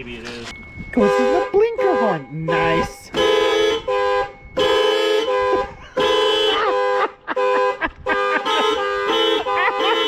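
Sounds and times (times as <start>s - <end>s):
car horns blasting: 1.0s - 10.0s.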